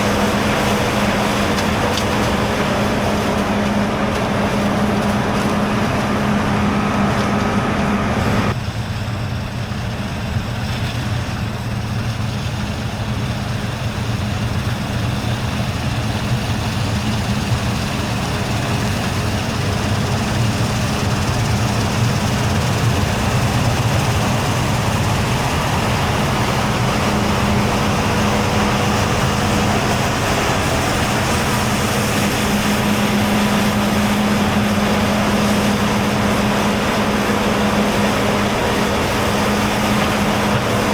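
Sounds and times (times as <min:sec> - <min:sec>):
diesel farm machinery humming: 0:00.0 - 0:40.9.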